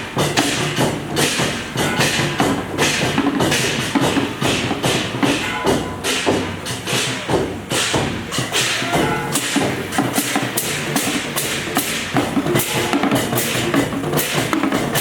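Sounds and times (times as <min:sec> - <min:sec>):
cymbals crashing: 0:00.0 - 0:15.0
drums: 0:00.0 - 0:15.0.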